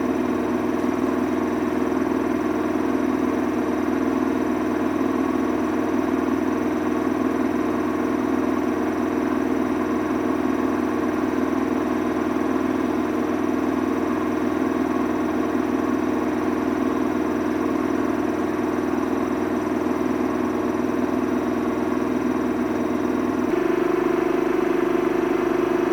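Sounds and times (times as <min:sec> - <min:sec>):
washing machine motor hum: 0:00.0 - 0:25.9.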